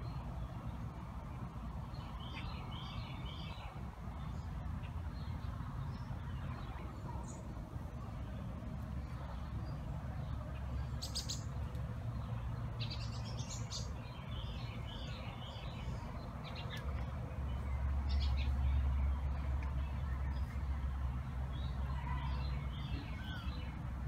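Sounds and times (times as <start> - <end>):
birds chirping: 0.0 - 24.0
low steady hum: 0.0 - 24.0.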